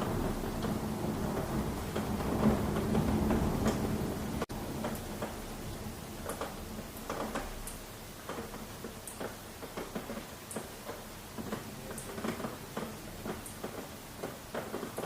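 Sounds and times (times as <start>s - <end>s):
low steady rain hiss: 0.0s - 15.0s
raindrops tapping on hard surface: 0.0s - 15.0s.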